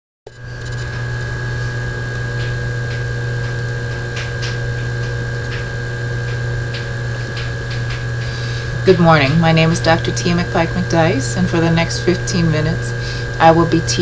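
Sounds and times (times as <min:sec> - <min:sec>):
electrical hum with high whine: 0:00.3 - 0:14.0.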